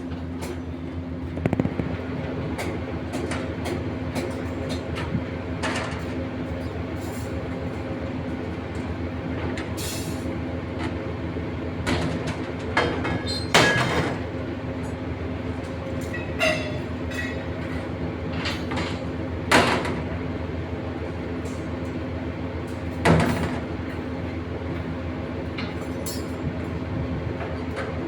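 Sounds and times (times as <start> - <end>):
machinery engine hum: 0.0 - 28.0.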